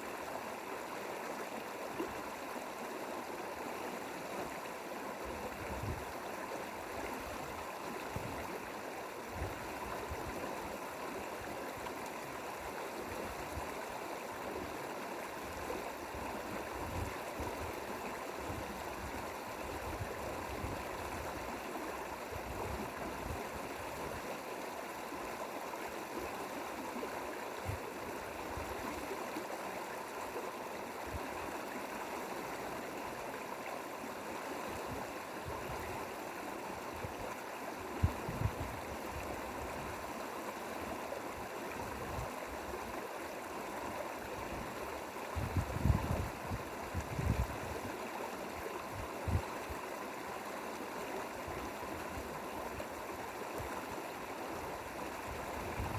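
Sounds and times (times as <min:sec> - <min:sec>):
mountain stream flowing: 0:00.0 - 0:55.9.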